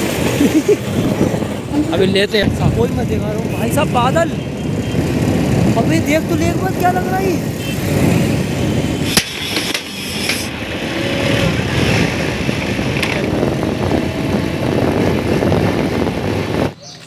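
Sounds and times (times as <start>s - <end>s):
two-stroke motorcycle running: 0.0s - 16.8s
wind noise on microphone: 0.0s - 17.0s.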